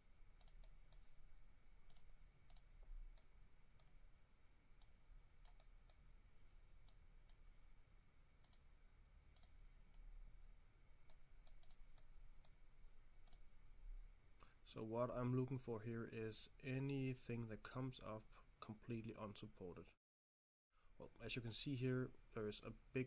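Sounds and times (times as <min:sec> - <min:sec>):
quiet room hum: 0:00.0 - 0:20.0, 0:20.7 - 0:23.0.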